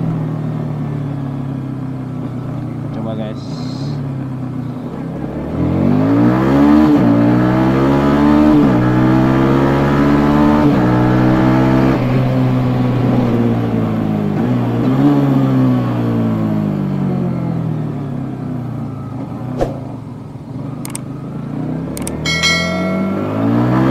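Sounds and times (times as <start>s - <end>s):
motorcycle engine accelerating: 4.0s - 23.9s.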